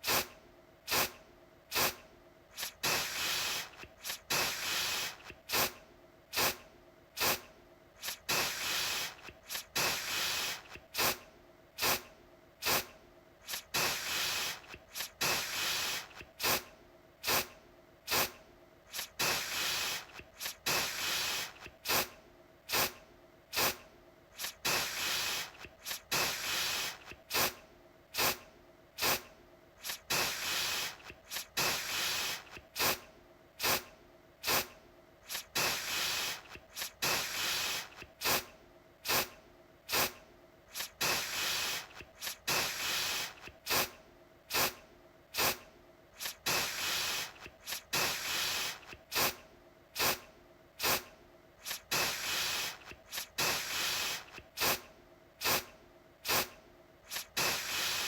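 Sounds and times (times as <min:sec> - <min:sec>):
aerosol can spraying: 0:00.0 - 0:00.3, 0:00.9 - 0:06.6, 0:07.2 - 0:11.2, 0:11.8 - 0:17.5, 0:18.1 - 0:23.8, 0:24.4 - 0:27.6, 0:28.2 - 0:28.4, 0:29.0 - 0:33.0, 0:33.6 - 0:44.8, 0:45.4 - 0:45.6, 0:46.2 - 0:49.4, 0:50.0 - 0:50.2, 0:50.8 - 0:58.0.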